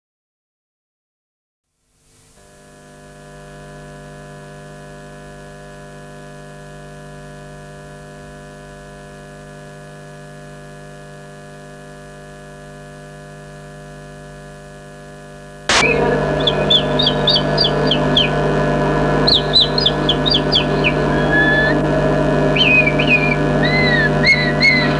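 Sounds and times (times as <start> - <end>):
electrical mains hum: 2.1 - 24.9.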